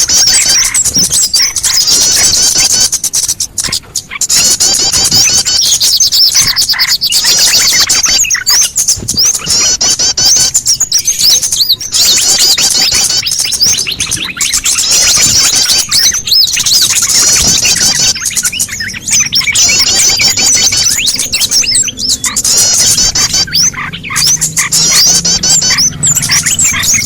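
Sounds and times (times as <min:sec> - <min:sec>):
many small birds chirping: 0:00.0 - 0:27.0.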